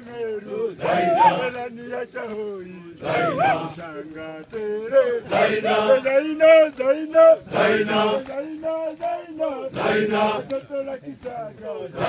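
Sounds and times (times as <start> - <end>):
group of men chanting: 0.0 - 12.0.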